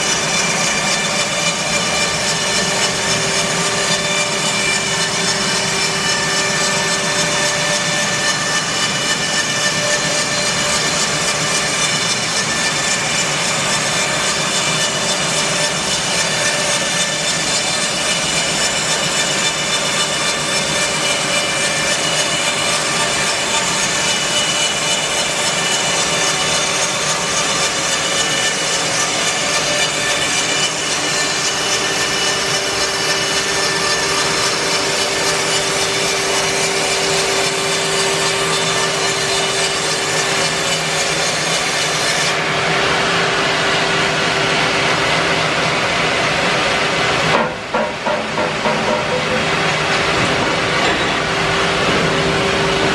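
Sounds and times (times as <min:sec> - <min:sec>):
bandsaw cutting log: 0:00.0 - 0:52.9
mill motor running under load: 0:00.0 - 0:52.9.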